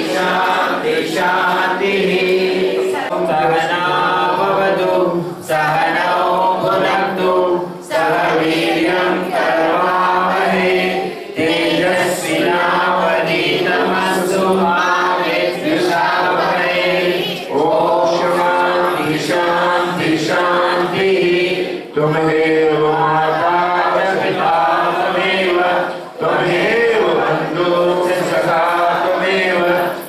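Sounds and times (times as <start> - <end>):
group singing a hymn: 0.0 - 30.0.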